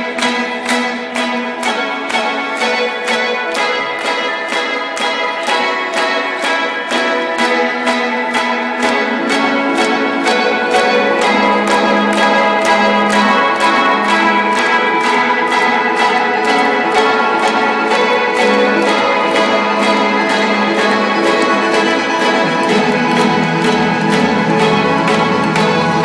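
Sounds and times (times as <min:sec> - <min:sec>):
bell-like synth chords: 0:00.0 - 0:26.0.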